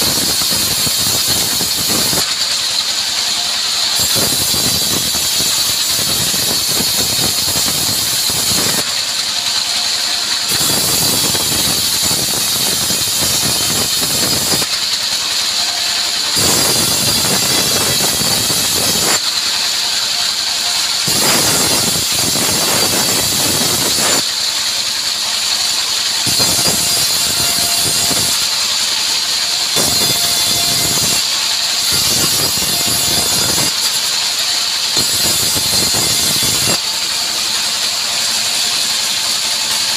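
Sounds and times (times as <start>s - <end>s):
band saw blade whine: 0.0s - 39.9s
saw cutting log: 0.0s - 39.9s.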